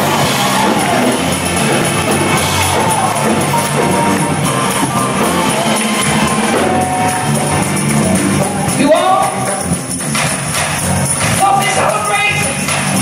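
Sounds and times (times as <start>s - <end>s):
keyboard accompaniment: 0.0s - 13.0s.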